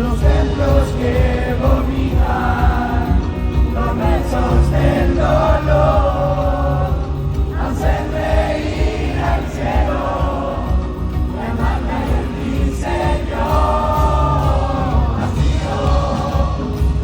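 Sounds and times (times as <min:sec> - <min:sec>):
crowd singing along: 0:00.0 - 0:17.0
rock band playing: 0:00.0 - 0:17.0.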